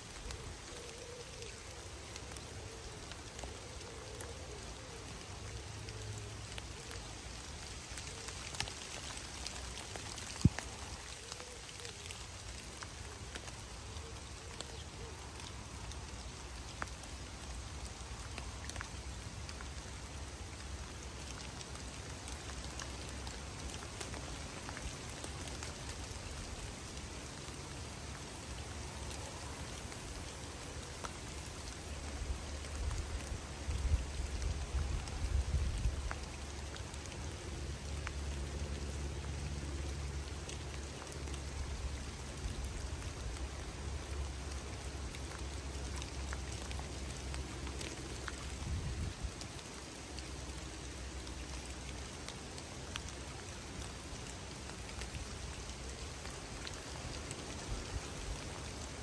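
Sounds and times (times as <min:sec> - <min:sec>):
rain falling on a river: 0:00.0 - 0:59.0.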